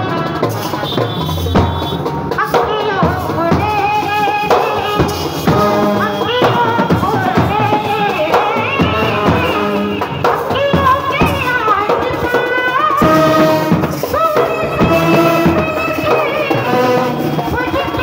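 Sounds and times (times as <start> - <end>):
sliding melody line: 0.2 - 11.3, 11.9 - 18.0
snare drum beating: 0.5 - 17.4.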